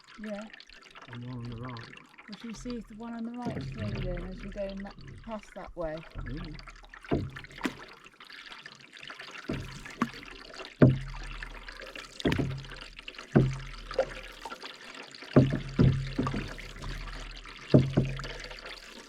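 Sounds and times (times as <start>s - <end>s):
canoe paddles splashing in water: 1.1s - 19.0s.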